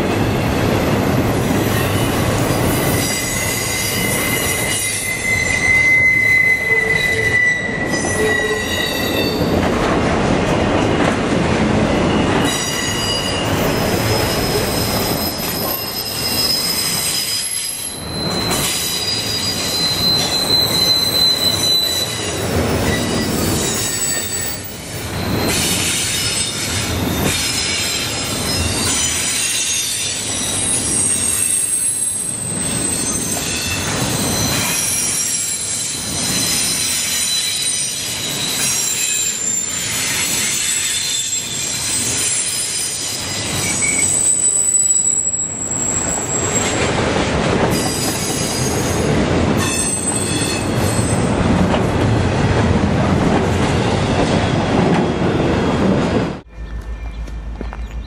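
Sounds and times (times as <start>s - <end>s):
freight train wheels rumbling: 0.0s - 58.0s
wheel squeal: 1.6s - 9.6s, 12.0s - 47.0s, 47.7s - 51.3s.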